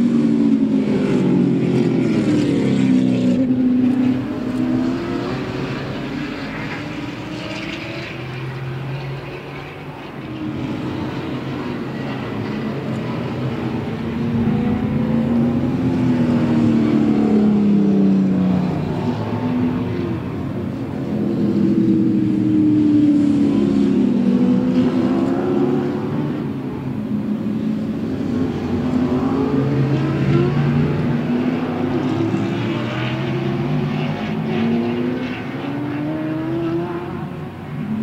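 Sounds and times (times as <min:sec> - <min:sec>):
race car engines passing: 0:00.0 - 0:38.0.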